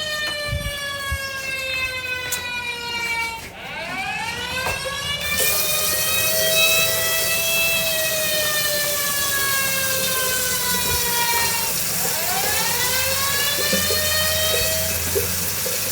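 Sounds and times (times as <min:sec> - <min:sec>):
siren alarm wailing: 0:00.0 - 0:15.9.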